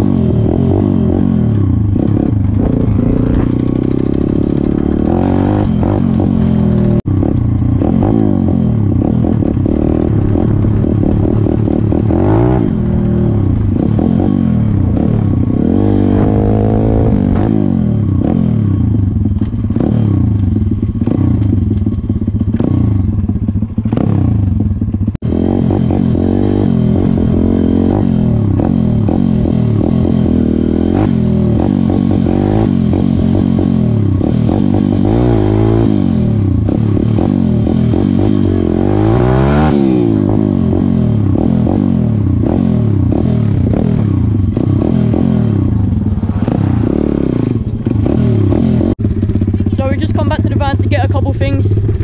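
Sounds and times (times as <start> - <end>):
small motorbike engine revving: 0.0 - 50.9.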